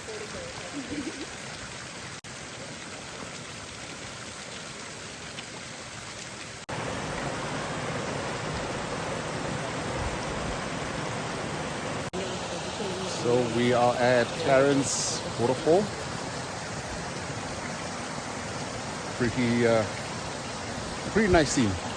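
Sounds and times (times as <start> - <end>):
river and waterfall rushing: 0.0 - 21.9.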